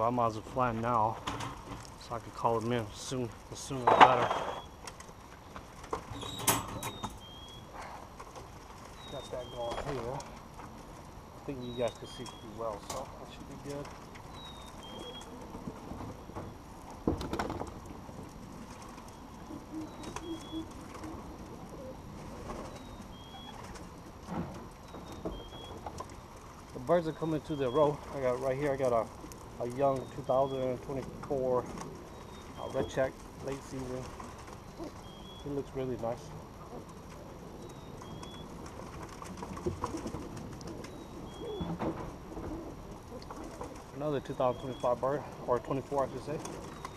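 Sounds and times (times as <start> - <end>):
pigeons cooing: 2.4 - 46.9.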